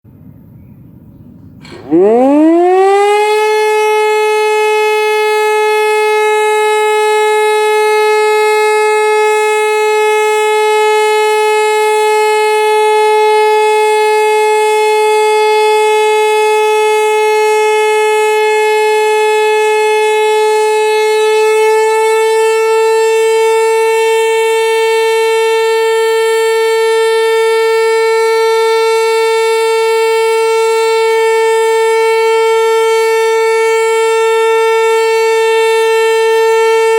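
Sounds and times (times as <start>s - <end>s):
civil defence siren steady tone: 0.1s - 36.9s.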